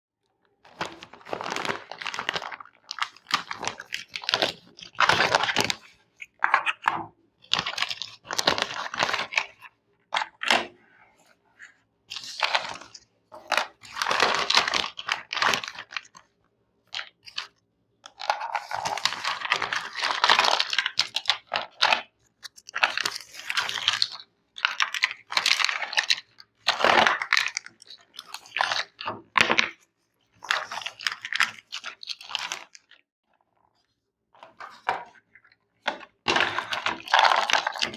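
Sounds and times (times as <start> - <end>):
toy packaging crinkling and tearing: 0.7 - 10.8, 12.1 - 16.2, 17.0 - 29.8, 30.4 - 33.0, 34.4 - 37.9.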